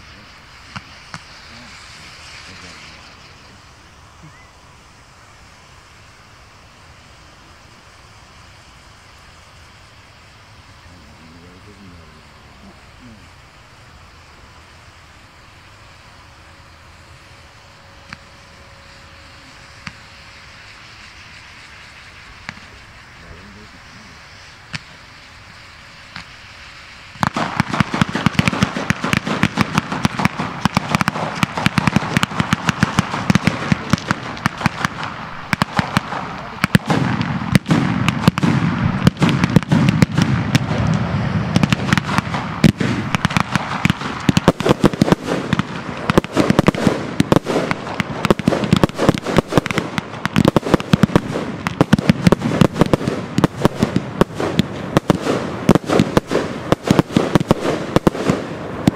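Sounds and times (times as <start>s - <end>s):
fireworks bangs and crackles: 0.0s - 58.9s.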